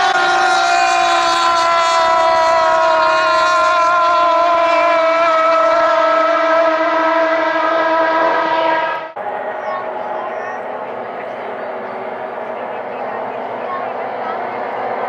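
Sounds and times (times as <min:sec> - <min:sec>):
outboard motor at high revs: 0:00.0 - 0:15.0.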